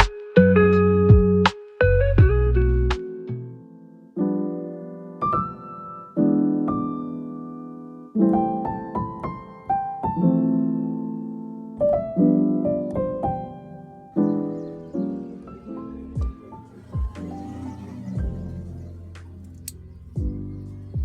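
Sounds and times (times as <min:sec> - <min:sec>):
slow keyboard chords: 0:00.0 - 0:21.0.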